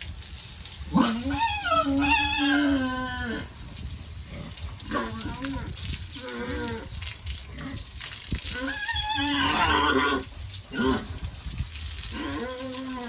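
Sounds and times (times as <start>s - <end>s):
pigs calling: 0.9s - 3.5s, 4.3s - 11.2s, 12.0s - 13.0s.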